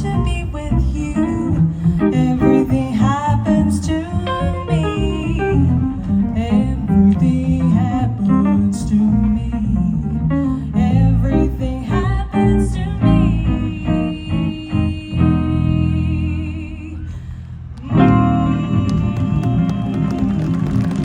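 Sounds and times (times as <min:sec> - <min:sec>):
plucked guitar: 0:00.0 - 0:16.9, 0:17.8 - 0:21.0
woman singing: 0:00.0 - 0:17.1, 0:17.8 - 0:21.0
double bass: 0:00.0 - 0:21.0.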